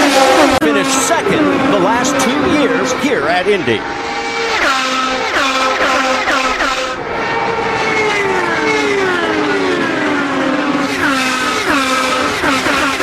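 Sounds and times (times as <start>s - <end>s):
race cars passing at speed: 0.0s - 13.0s.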